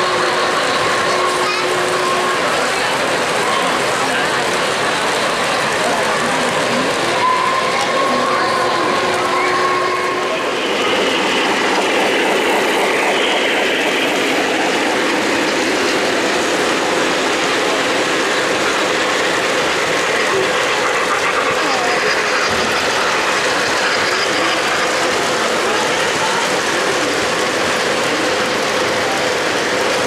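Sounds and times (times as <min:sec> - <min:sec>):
model train wheels clattering on rails: 0:00.0 - 0:30.0.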